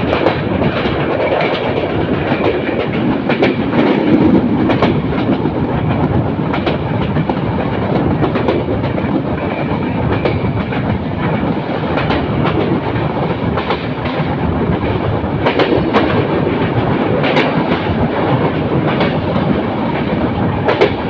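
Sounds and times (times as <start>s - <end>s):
train wheels rumbling on track: 0.0s - 21.0s
wheels clacking over rail joints: 0.0s - 21.0s.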